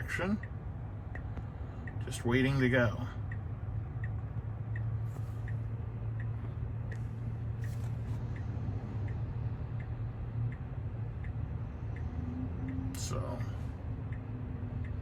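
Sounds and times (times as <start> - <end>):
low hum of idling car: 0.0 - 15.0
turn signal ticking: 0.0 - 15.0.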